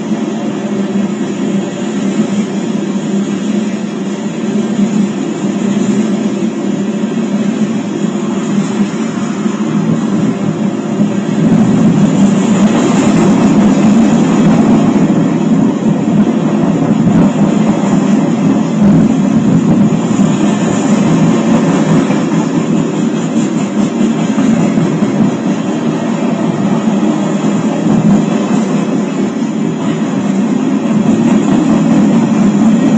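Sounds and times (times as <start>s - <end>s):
freight train wheels rumbling on track: 0.0s - 32.9s.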